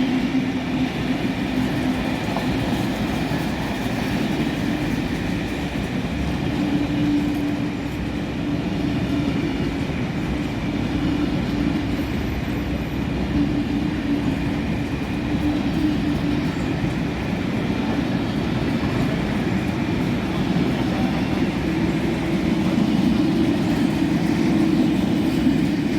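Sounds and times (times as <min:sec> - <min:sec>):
train wheels rumbling: 0:00.0 - 0:25.9.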